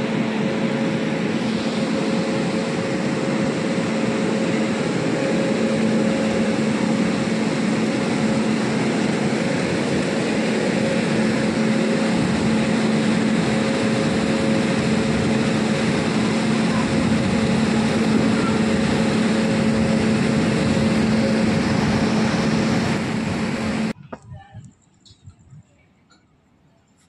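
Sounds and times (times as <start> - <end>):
locomotive blowers whirring: 0.0 - 24.0.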